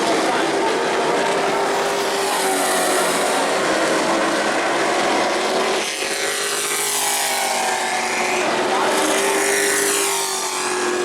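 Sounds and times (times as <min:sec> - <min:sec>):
race truck engines running hard: 0:00.0 - 0:11.0.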